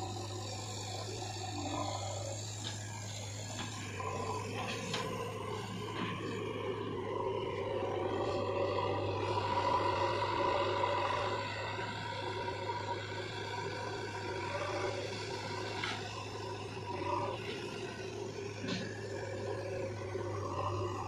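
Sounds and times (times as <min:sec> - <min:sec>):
diesel engine revving: 0:00.0 - 0:21.0.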